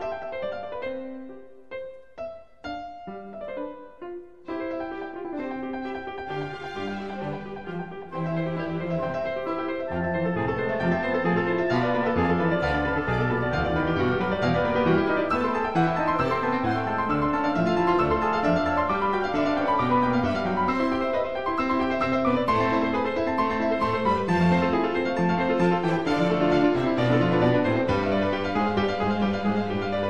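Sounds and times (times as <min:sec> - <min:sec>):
classical solo piano: 0:00.0 - 0:30.0.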